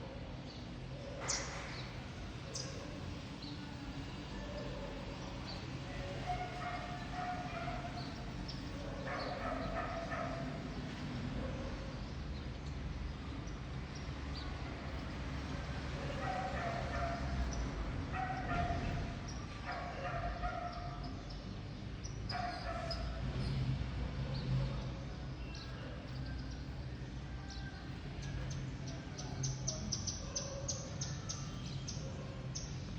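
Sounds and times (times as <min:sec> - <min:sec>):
birds chirping: 0:00.5 - 0:23.6, 0:24.2 - 0:32.9.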